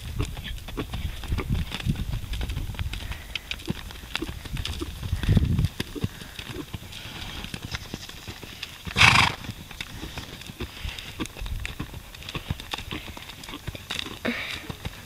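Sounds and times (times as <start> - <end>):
hoofbeats on soft dirt: 0.0 - 15.0.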